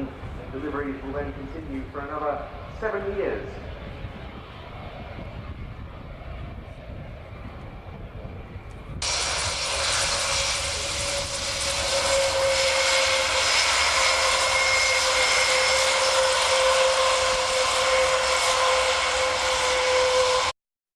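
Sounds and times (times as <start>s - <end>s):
turboprop propellers droning: 0.0s - 20.6s.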